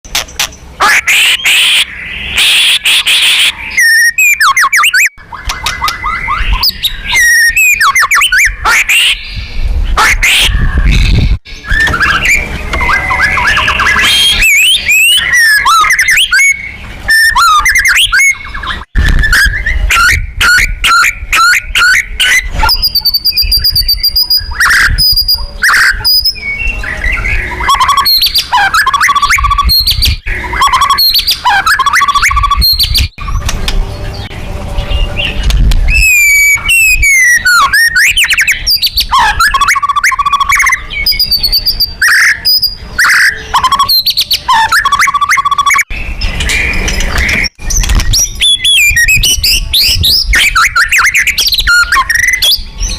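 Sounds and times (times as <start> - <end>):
bird singing whistles and trills: 0.2 - 52.9.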